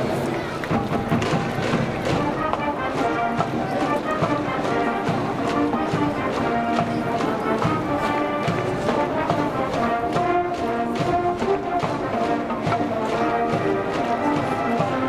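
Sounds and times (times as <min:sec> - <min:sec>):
brass band chords: 0:00.0 - 0:15.0
steady drum beat: 0:00.0 - 0:15.0.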